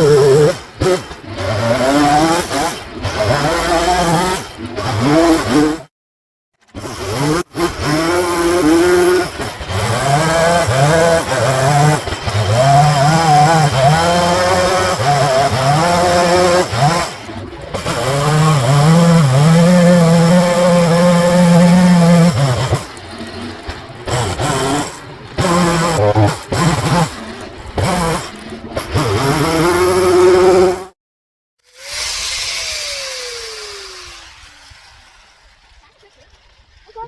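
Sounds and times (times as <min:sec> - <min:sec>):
chainsaw cutting wood: 0:00.0 - 0:05.9, 0:06.6 - 0:31.0, 0:31.6 - 0:37.0.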